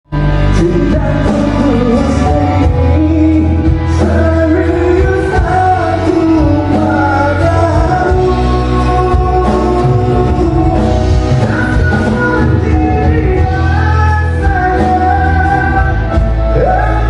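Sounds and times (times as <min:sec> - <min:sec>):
band accompaniment with bass: 0:00.1 - 0:17.0
man singing: 0:00.1 - 0:17.0.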